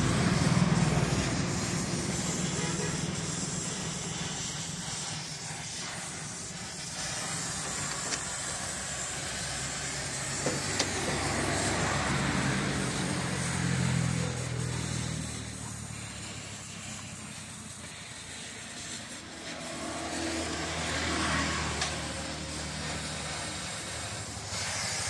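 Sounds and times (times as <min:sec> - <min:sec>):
gas cutting torch hissing: 0:00.0 - 0:25.0.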